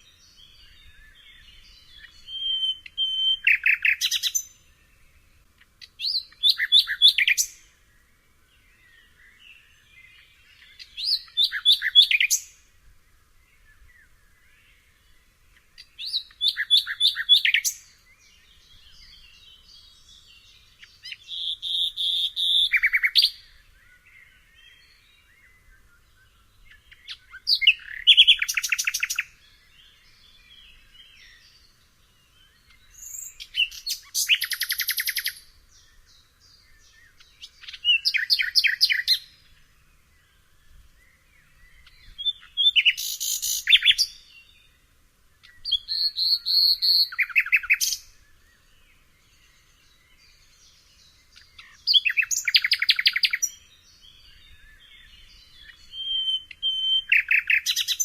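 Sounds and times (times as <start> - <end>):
nightingale singing trills: 0.0 - 58.0.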